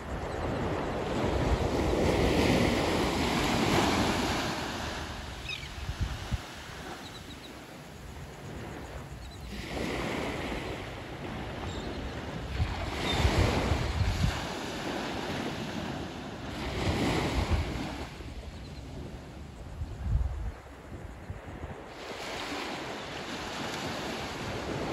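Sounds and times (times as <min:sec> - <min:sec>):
surf washing up a beach: 0:00.0 - 0:20.3, 0:21.4 - 0:24.9
wind rumbling on microphone: 0:00.0 - 0:24.9.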